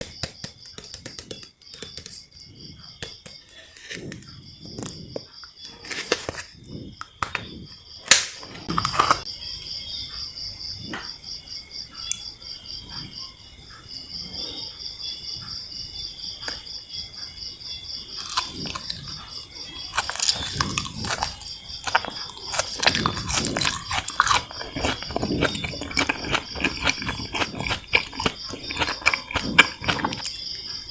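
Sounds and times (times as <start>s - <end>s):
insects chirping: 0.0s - 30.9s.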